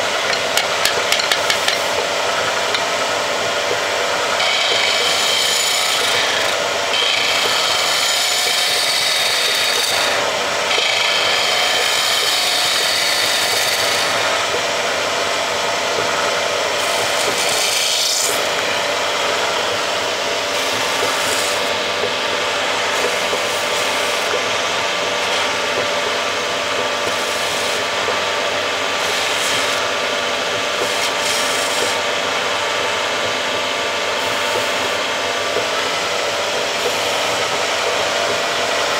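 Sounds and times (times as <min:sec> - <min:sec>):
chisel cutting spinning wood: 0:00.0 - 0:38.9
wood lathe running: 0:00.0 - 0:38.9.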